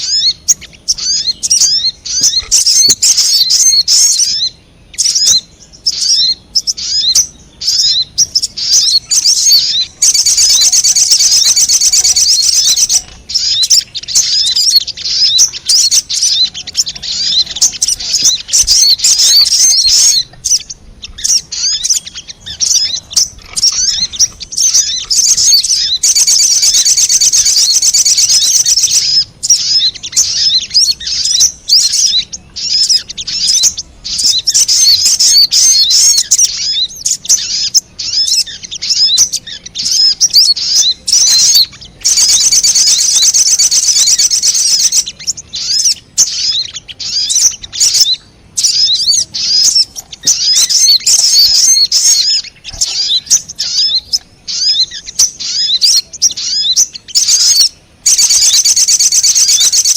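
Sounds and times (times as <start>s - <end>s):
bird chirps and chatter: 0.0s - 59.9s
bird rapid trills: 0.0s - 59.9s.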